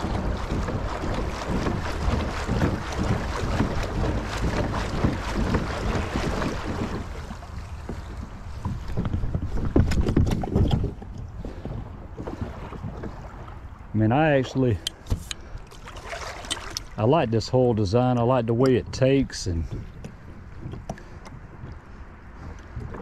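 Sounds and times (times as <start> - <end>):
water sloshing against kayak hull: 0.0 - 23.0
wind buffeting microphone: 0.0 - 23.0.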